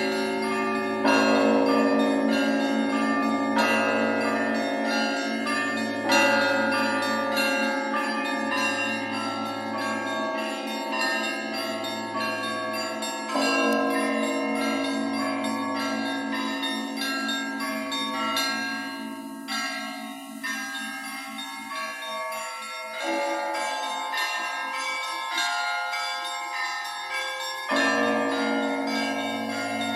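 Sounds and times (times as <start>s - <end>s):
church bells ringing a peal: 0.0s - 29.9s.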